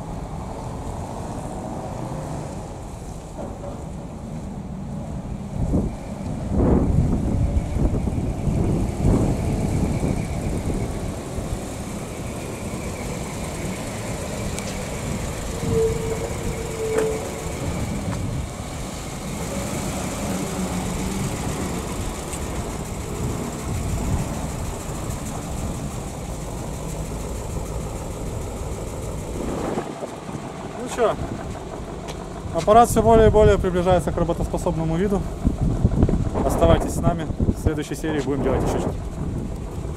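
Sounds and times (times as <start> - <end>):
bus engine low rumble: 0.0 - 39.9.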